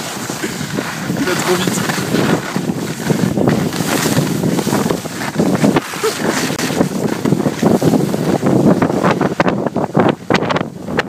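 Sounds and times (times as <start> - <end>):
skis scraping on snow: 0.0 - 11.0
wind buffeting microphone: 0.0 - 11.0.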